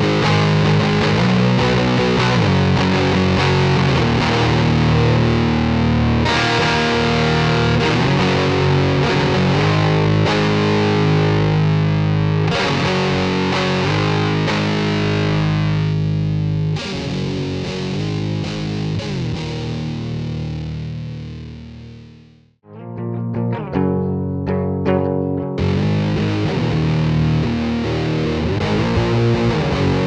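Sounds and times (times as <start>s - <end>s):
distorted electric guitar chords: 0.0s - 30.0s.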